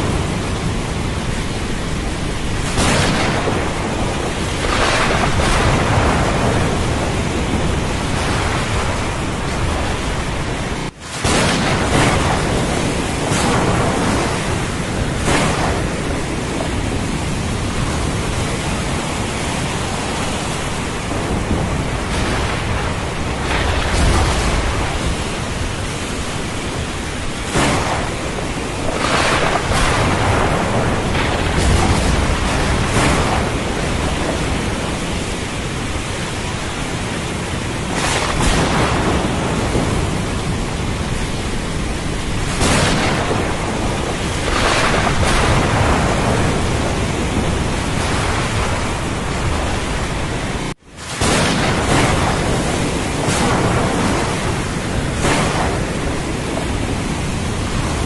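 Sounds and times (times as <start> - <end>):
heavy rain hissing: 0.0 - 58.0
surf: 0.0 - 58.0
thunder rumbling: 0.0 - 58.0.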